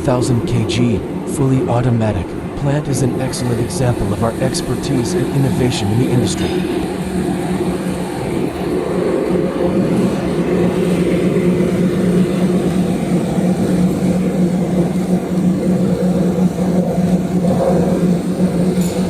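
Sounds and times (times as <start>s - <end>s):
machinery motor drone: 0.0s - 19.0s.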